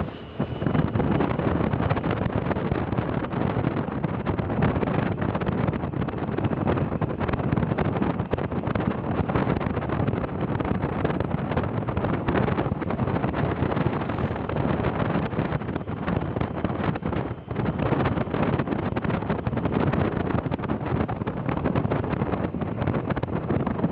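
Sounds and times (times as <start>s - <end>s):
vehicle rumbling: 0.0s - 23.9s
wind buffeting microphone: 0.0s - 23.9s.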